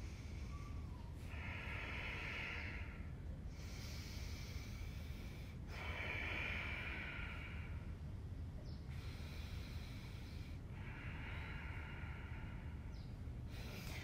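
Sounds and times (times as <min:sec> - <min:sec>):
person breathing deeply: 0:00.0 - 0:14.0.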